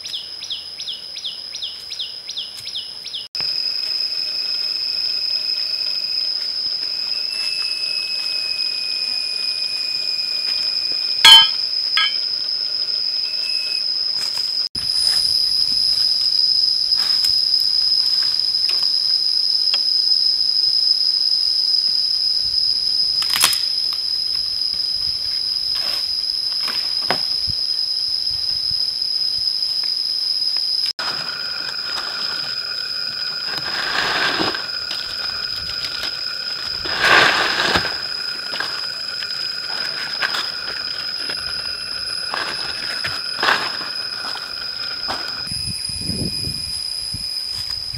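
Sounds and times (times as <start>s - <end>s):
insects shrilling: 0.0s - 47.9s.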